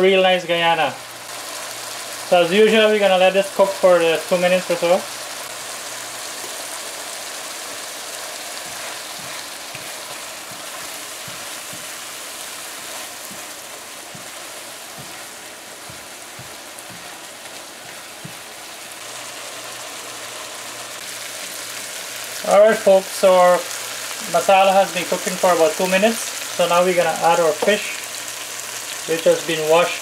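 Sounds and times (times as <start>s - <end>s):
paste sizzling in hot oil: 1.0s - 30.0s.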